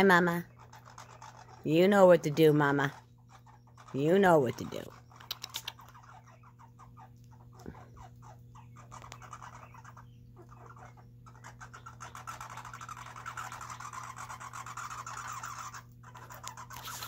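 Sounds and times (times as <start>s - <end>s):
squirrels gnawing and crunching nuts: 0.0s - 17.0s.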